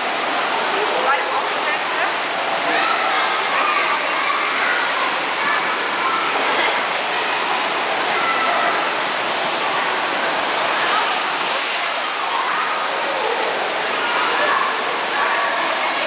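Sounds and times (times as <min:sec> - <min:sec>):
water rushing from slide: 0:00.0 - 0:16.0.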